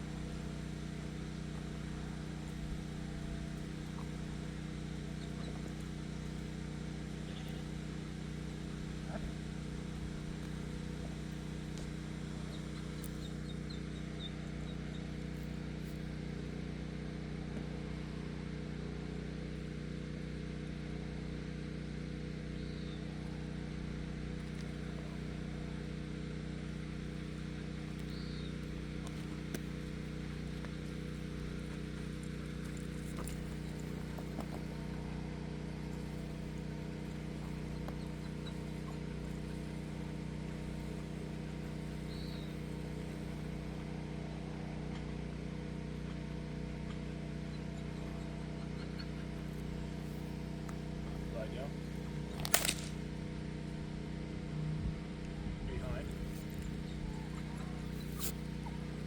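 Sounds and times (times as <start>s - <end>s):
engine humming steadily: 0.0s - 59.0s.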